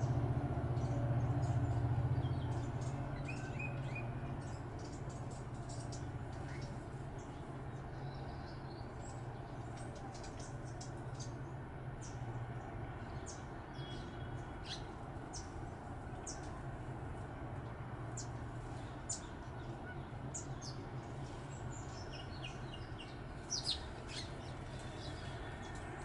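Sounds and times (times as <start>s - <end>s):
small birds chirping: 0.8s - 16.6s, 18.1s - 26.0s.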